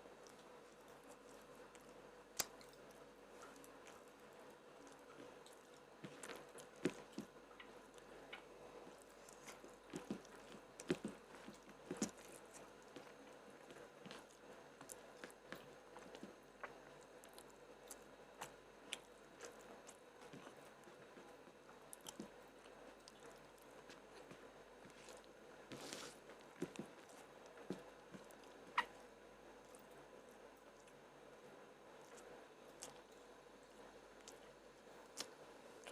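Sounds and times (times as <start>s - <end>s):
person chewing food: 0.0s - 30.0s, 31.9s - 35.9s.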